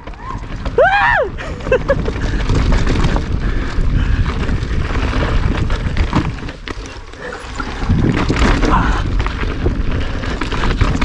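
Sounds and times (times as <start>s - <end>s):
bike tyres and frame rattling: 0.0s - 11.0s
wind buffeting microphone: 0.0s - 11.0s.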